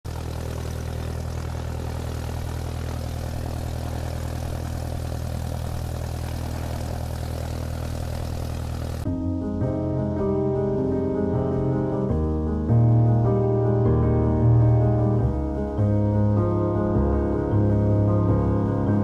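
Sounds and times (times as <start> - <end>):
propeller aircraft engine running: 0.0 - 19.0.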